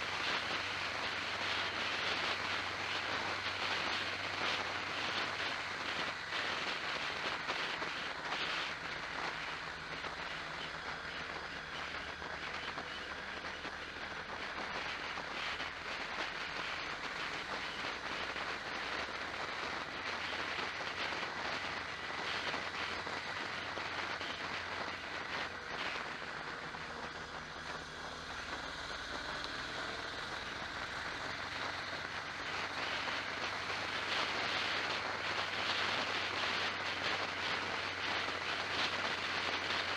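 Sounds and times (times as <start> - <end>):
low engine drone: 0.0 - 39.9
wind and road noise: 0.0 - 39.9.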